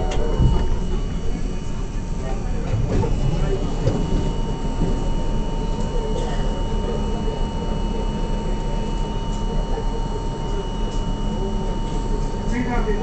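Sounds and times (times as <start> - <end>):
subway car hum and rumble: 0.0 - 13.0.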